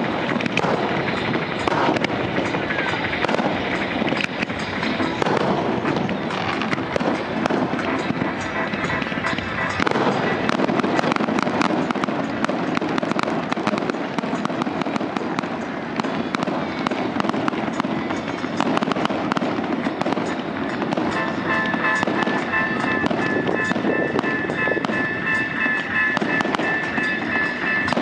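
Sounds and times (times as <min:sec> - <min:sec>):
firework shells bursting: 0:00.0 - 0:28.0
rapid crackling pops: 0:00.0 - 0:28.0.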